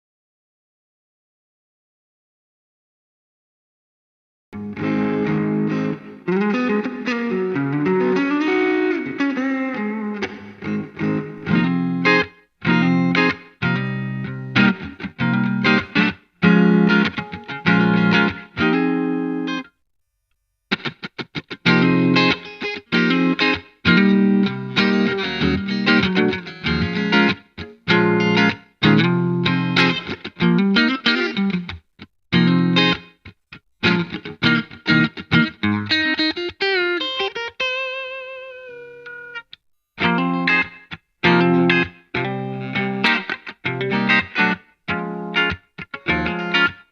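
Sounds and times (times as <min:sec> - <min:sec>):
choked guitar stabs: 0:04.6 - 0:19.6, 0:20.7 - 0:46.8
electric guitar chords strummed: 0:04.6 - 0:19.8, 0:20.7 - 0:46.9.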